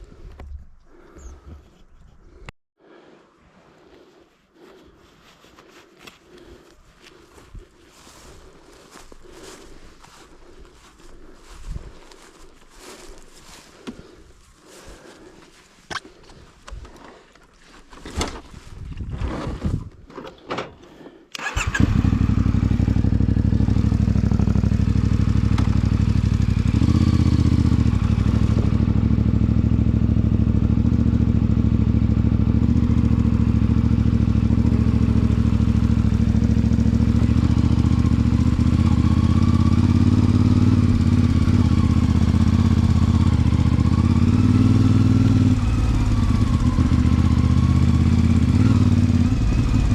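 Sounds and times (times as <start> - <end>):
motorcycle engine starting and idling: 7.9 - 49.9.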